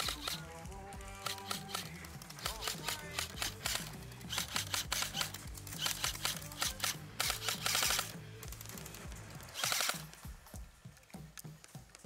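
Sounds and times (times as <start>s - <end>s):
airsoft rifle shots: 0.0s - 10.5s
music with steady beat: 0.0s - 12.0s.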